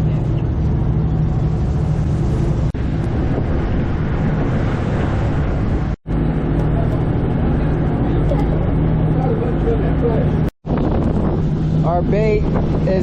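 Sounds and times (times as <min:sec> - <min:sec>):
boat engine humming: 0:00.0 - 0:13.0
constant rushing noise: 0:00.0 - 0:13.0.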